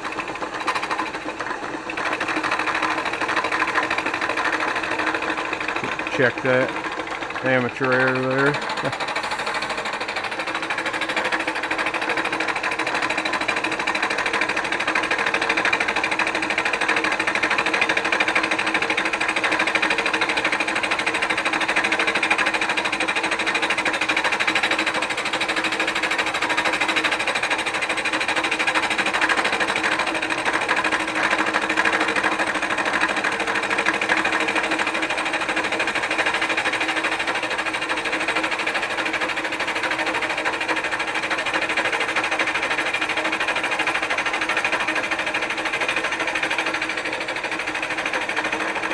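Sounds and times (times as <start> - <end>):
milling machine cutting metal: 0.0 - 48.9.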